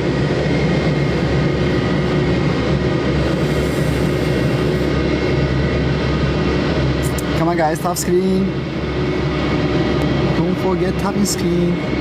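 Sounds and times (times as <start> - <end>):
jet engines running with whine: 0.0 - 12.0.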